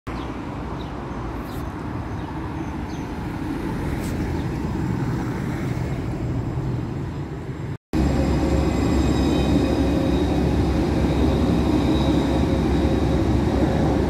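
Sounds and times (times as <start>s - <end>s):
tram rumbling: 0.2s - 14.0s.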